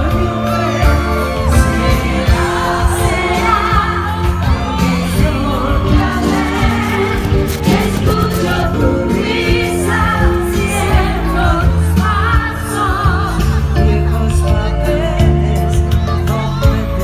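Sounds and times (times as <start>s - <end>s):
band playing pop music: 0.0s - 17.0s.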